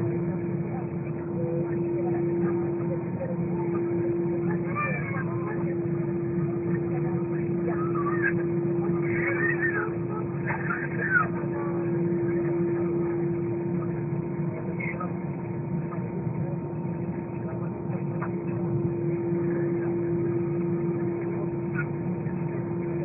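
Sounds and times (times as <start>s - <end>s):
airplane cabin drone: 0.0s - 23.0s.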